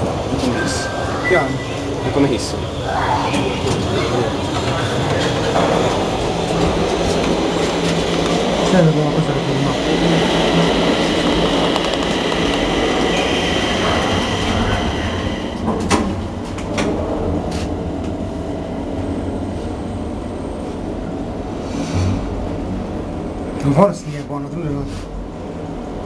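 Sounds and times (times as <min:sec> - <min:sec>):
elevator car rumbling with whine: 0:00.0 - 0:26.0.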